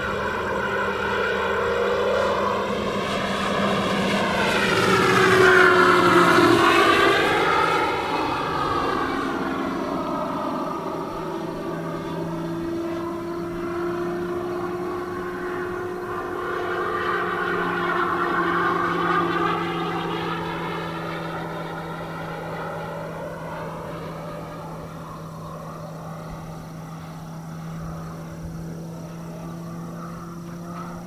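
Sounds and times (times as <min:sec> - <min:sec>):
model airplane flying past: 0:00.0 - 0:31.0
steady low hum: 0:00.0 - 0:31.0.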